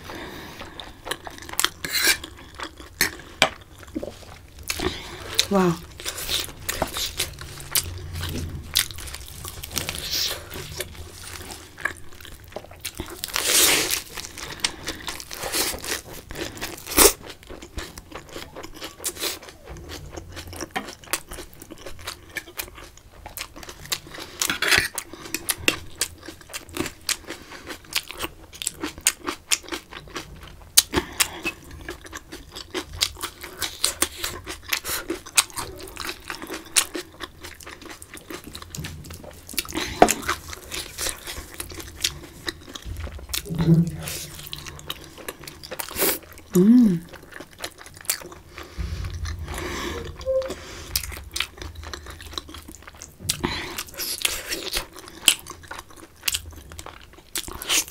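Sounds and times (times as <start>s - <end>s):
chewing and crunching lettuce: 0.0s - 50.1s, 50.8s - 57.9s.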